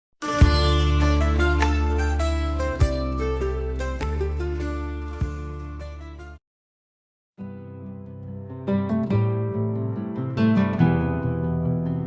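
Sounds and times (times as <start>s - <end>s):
plucked strings music: 0.2s - 6.4s, 7.4s - 12.0s.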